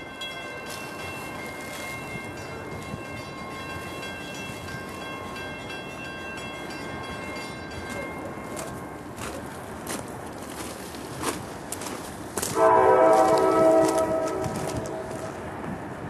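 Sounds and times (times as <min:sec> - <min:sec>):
distant train rumble: 0:00.0 - 0:16.0.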